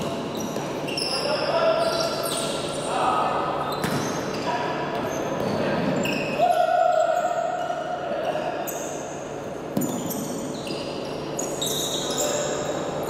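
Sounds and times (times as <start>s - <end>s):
shoe squeaks: 0.0s - 9.1s, 9.8s - 13.0s.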